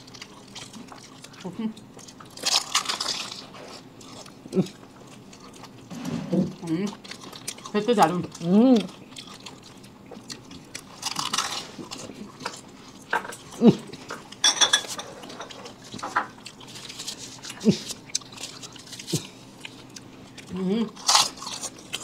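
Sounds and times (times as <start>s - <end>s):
people chewing and slurping: 0.0s - 22.0s.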